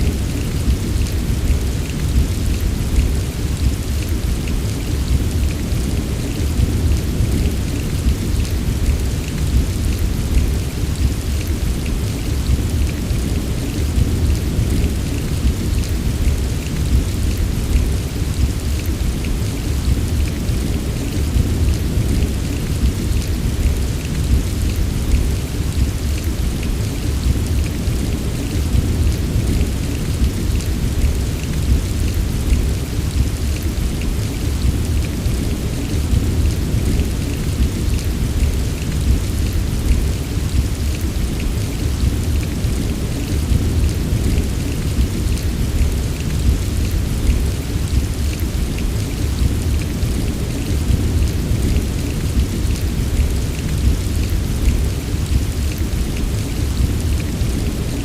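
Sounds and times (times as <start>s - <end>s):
heavy rain patter: 0.0s - 58.0s.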